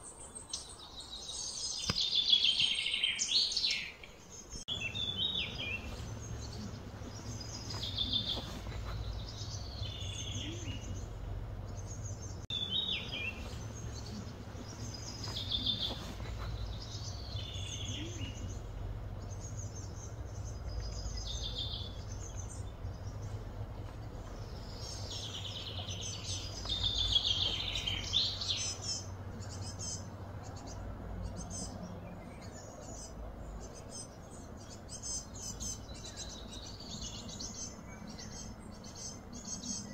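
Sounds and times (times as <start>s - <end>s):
birds chirping: 0.0s - 39.9s
low background hum: 4.0s - 39.9s.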